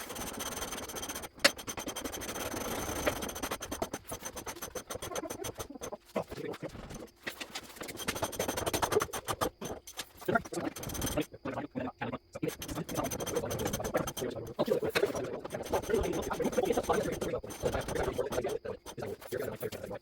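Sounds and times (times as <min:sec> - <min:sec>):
scraping and clatter on metal: 0:00.0 - 0:11.3, 0:12.4 - 0:19.8.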